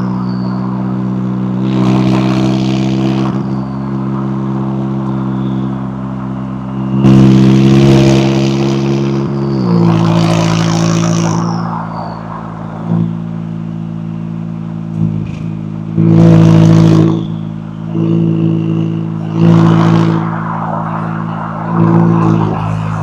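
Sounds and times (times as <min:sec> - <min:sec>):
sports car exhaust: 0:00.0 - 0:23.0.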